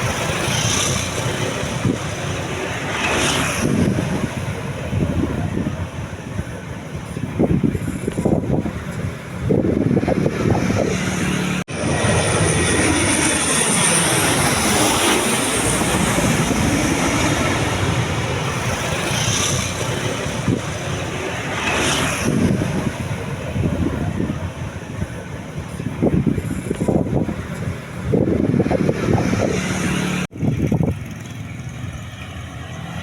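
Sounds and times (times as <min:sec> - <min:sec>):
high turbine whine: 0:00.0 - 0:30.7
turboprop engines droning: 0:00.0 - 0:33.0.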